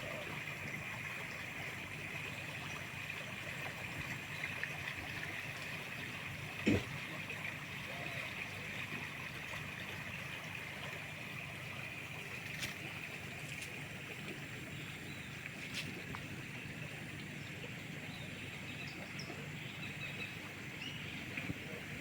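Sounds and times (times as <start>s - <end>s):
river flowing: 0.0s - 22.0s.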